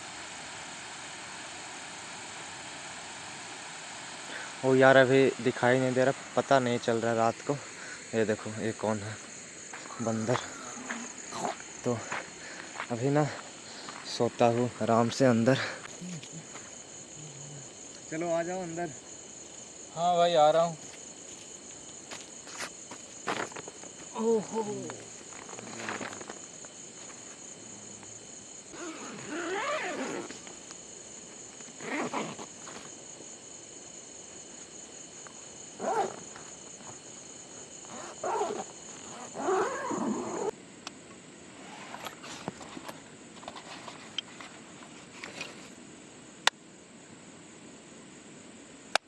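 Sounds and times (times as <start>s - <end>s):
crickets chirring: 0.0s - 49.0s.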